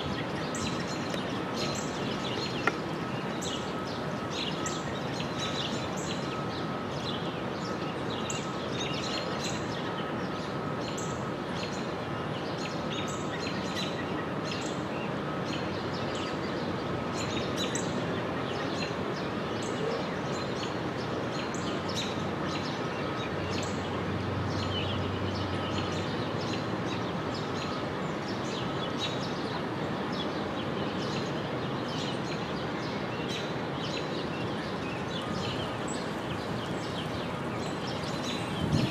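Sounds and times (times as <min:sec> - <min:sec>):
outdoor background hiss: 0:00.0 - 0:38.9
small songbirds chirping: 0:00.0 - 0:38.9.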